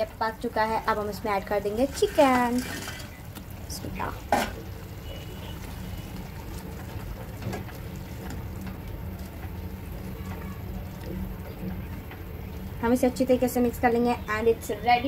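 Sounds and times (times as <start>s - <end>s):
spatula stirring gravy: 0.4s - 14.6s.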